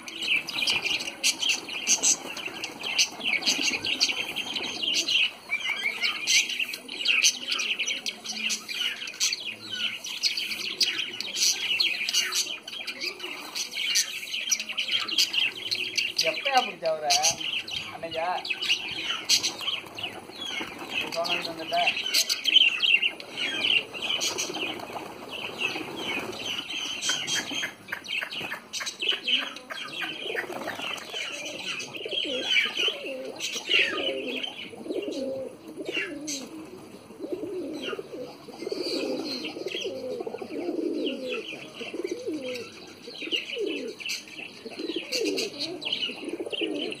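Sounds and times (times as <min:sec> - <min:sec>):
pigeons cooing: 0:00.0 - 0:47.0.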